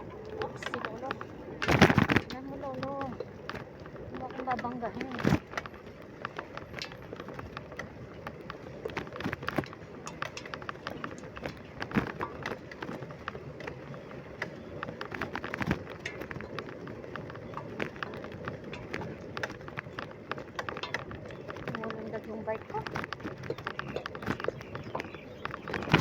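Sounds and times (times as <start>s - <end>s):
bicycle frame rattling: 0.0s - 26.0s.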